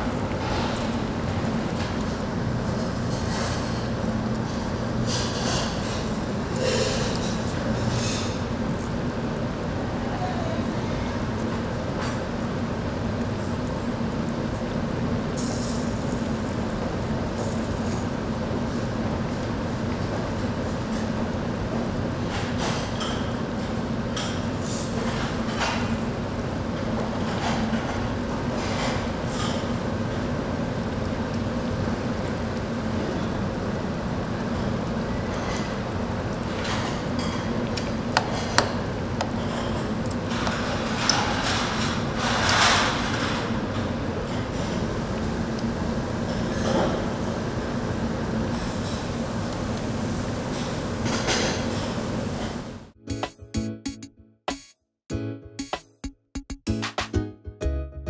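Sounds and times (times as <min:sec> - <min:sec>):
mechanical hum: 0:00.0 - 0:53.6.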